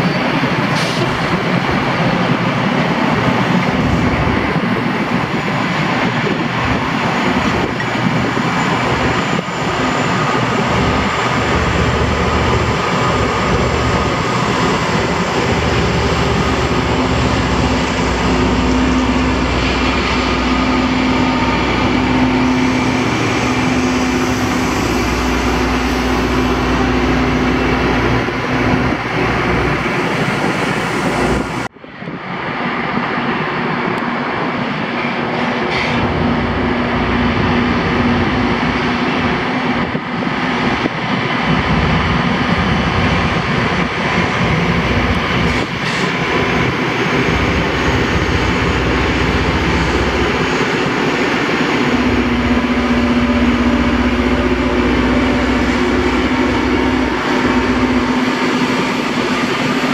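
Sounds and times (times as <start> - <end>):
rail grinder train noise: 0.0 - 59.9.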